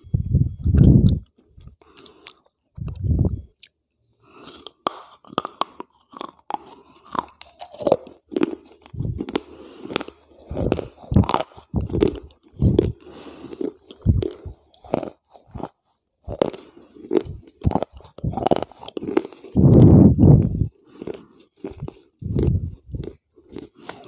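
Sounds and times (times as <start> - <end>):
close chewing and crunching: 0.4 - 24.0.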